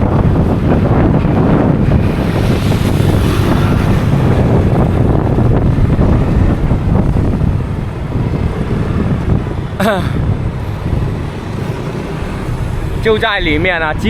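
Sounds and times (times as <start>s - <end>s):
motorbike running: 0.0s - 14.0s
road noise: 0.0s - 14.0s
wind buffeting on microphone: 0.0s - 14.0s.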